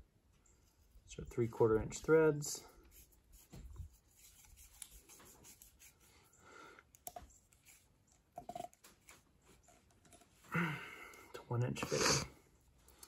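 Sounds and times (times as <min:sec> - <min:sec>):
pipe fittings rubbing and clicking: 0:00.4 - 0:06.3, 0:06.9 - 0:10.5, 0:11.8 - 0:13.0.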